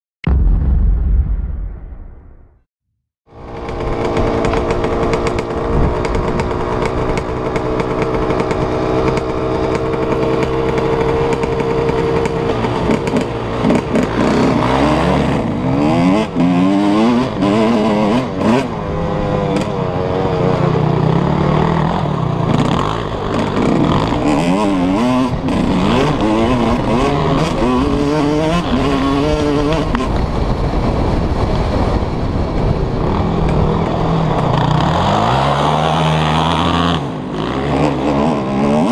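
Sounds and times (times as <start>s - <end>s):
motorcycle engine revving: 3.3s - 38.9s.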